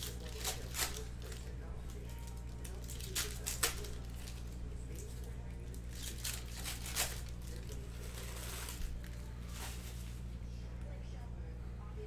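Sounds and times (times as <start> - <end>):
foil wrapper crinkling: 0.0 - 10.2
steady low hum: 0.0 - 12.0.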